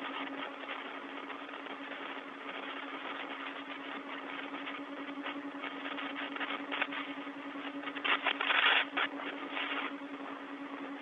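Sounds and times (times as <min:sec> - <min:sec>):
loud rush of radio noise: 0:00.0 - 0:10.2
radio static hiss: 0:00.0 - 0:11.0.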